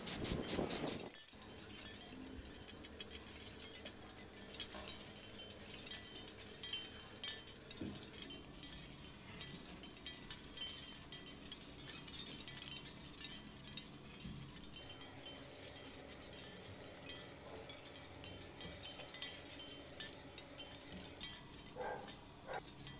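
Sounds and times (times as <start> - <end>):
light clicks of tiny metal parts: 0.1 - 22.9.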